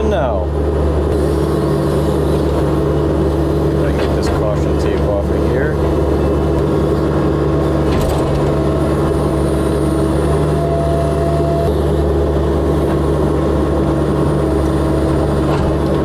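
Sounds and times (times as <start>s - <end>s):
excavator diesel engine running: 0.0s - 16.0s
hydraulic whine: 0.0s - 16.0s.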